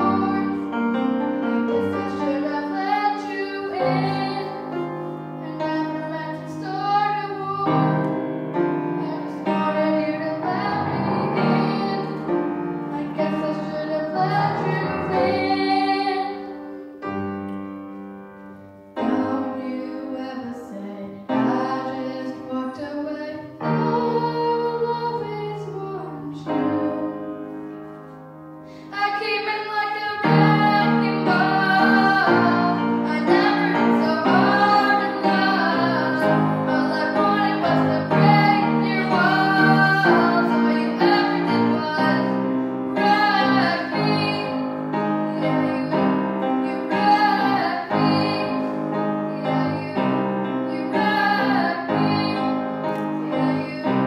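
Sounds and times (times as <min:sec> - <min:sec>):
girl singing: 0:00.0 - 0:00.9, 0:01.8 - 0:17.1, 0:19.0 - 0:27.6, 0:28.7 - 0:54.0
grand piano: 0:00.0 - 0:54.0.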